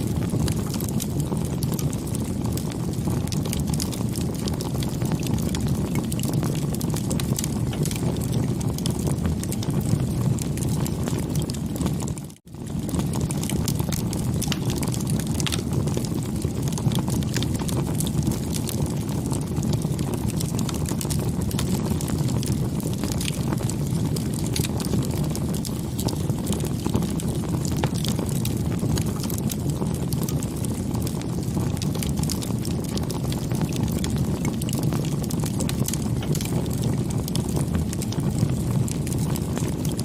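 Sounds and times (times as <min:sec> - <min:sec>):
wood crackling and popping: 0:00.0 - 0:40.0.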